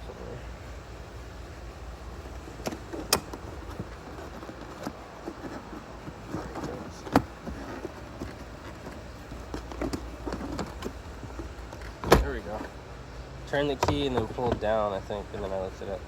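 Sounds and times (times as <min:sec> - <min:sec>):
steady low hum: 0:00.0 - 0:16.0
handling knocks and rattles: 0:02.1 - 0:12.8, 0:13.5 - 0:15.9.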